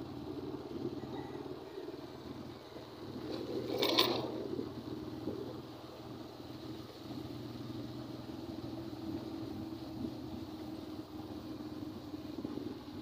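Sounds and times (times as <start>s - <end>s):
vehicle hum on the road: 0.0s - 13.0s.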